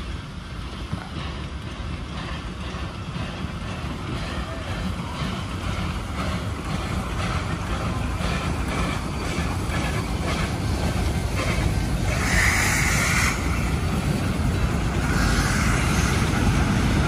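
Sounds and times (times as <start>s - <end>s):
steam hiss: 0.0s - 17.0s
steam train exhaust beats: 0.0s - 17.0s
train rumble: 0.0s - 17.0s.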